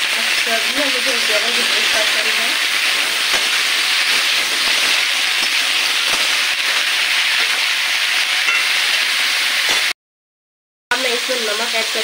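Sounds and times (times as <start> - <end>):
vegetables sizzling in hot oil: 0.0 - 10.0, 10.9 - 12.0.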